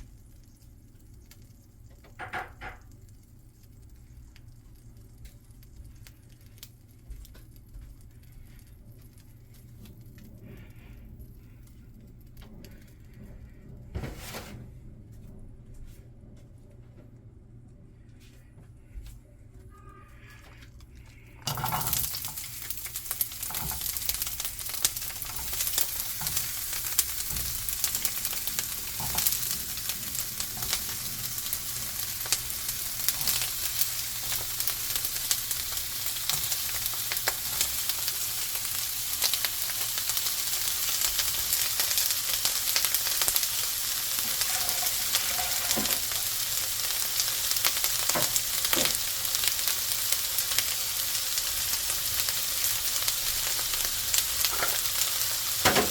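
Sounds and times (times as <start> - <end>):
food sizzling in a frying pan: 0.0 - 10.9, 21.4 - 55.9.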